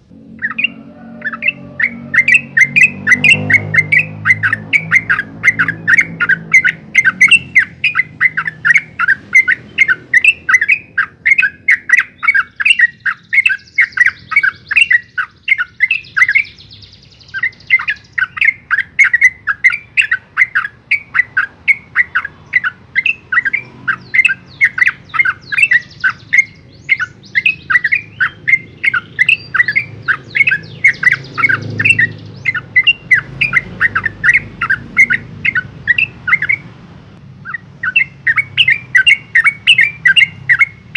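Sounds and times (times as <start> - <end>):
bird singing sharp repeated notes: 0.0 - 36.8, 37.4 - 40.9.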